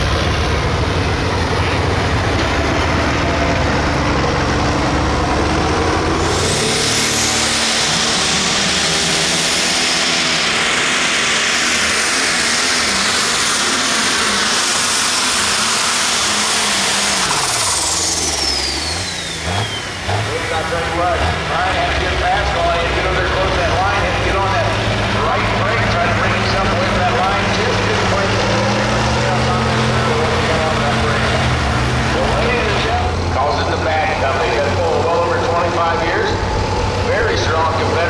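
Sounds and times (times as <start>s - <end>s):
tractor engine under load: 0.0s - 38.0s
high-pitched turbo rush: 1.0s - 38.0s.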